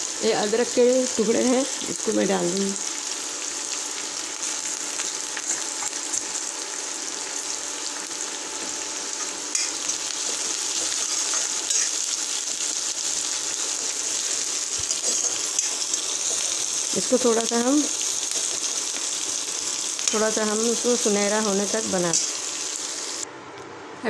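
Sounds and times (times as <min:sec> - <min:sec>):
onions sizzling in hot oil: 0:00.0 - 0:23.2.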